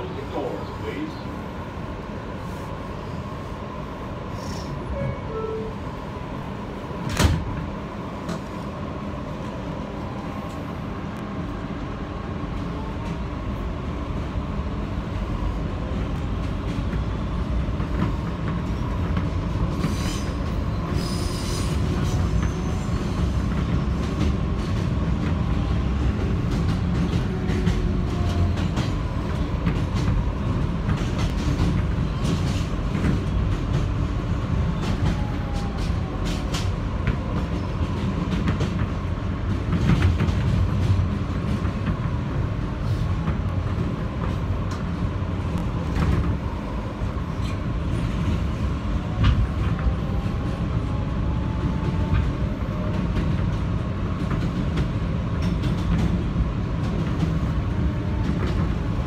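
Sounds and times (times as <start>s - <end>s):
subway car wheels rumbling: 0.0s - 59.0s.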